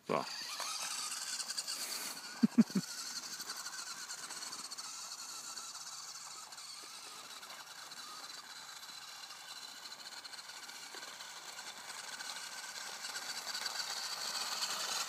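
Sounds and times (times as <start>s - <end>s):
toy electric motor whining: 0.0s - 15.0s.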